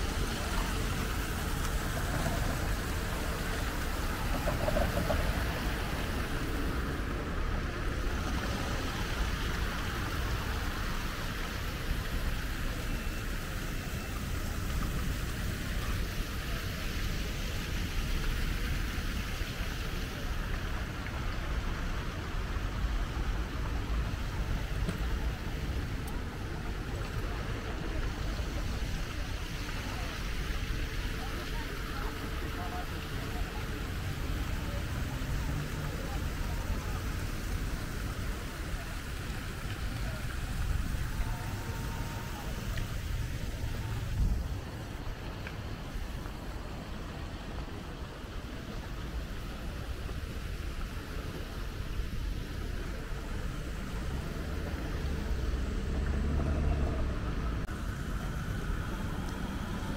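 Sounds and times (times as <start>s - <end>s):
traffic noise from passing cars: 0.0s - 59.9s.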